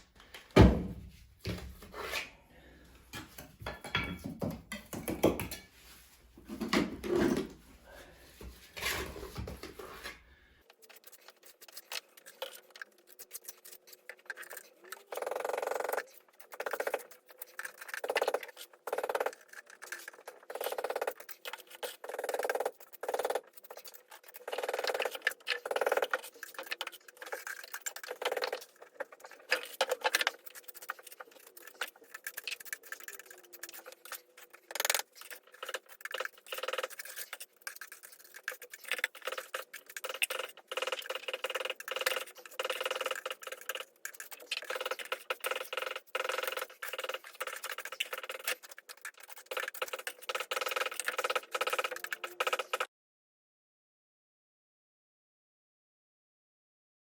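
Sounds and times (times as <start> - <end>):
scratching and scraping: 5.5 - 52.9.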